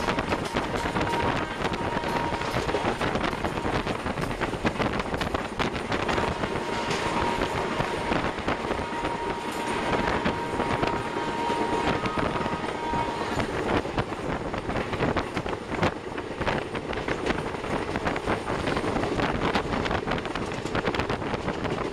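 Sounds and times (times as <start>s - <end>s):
train wheels clattering over rail joints: 0.0s - 21.9s.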